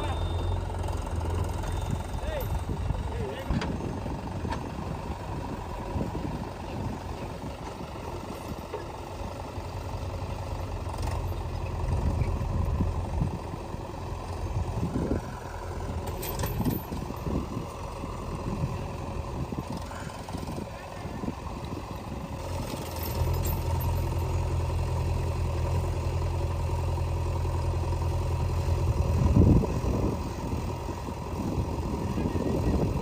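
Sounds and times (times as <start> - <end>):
heavy diesel engines running: 0.0 - 33.0.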